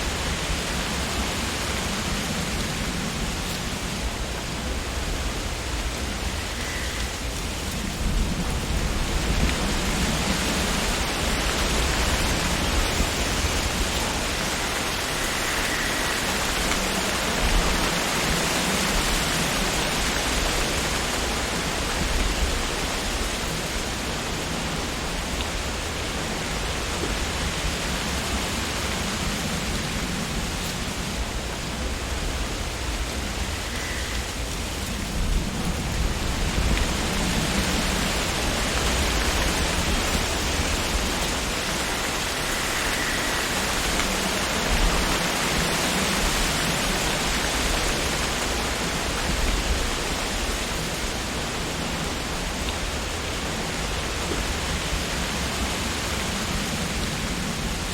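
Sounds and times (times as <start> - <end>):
low wind rumble: 0.0 - 57.9
wind rustling tree leaves: 0.0 - 57.9.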